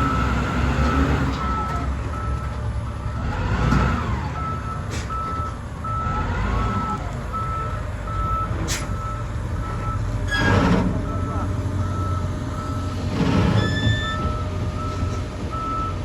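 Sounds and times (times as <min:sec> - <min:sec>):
reversing alarm beeping: 0:00.0 - 0:03.4, 0:04.3 - 0:16.0
diesel engine running: 0:00.0 - 0:16.0.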